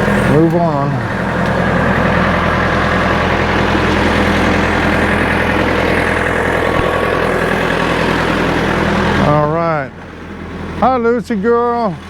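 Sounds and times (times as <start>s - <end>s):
backhoe engine running: 0.0s - 12.0s.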